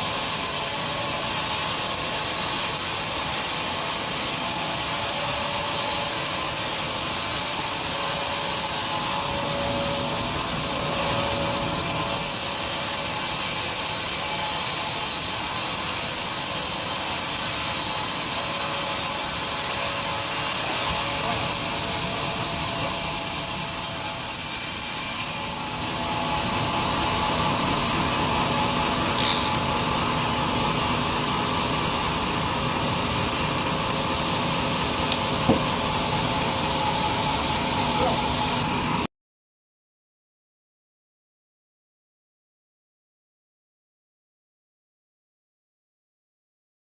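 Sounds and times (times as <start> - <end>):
bandsaw cutting through log: 0.0 - 39.1.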